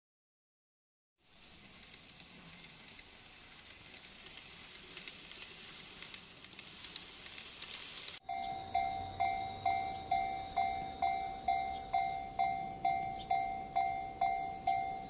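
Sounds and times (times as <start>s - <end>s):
model train running on track: 1.2s - 15.0s.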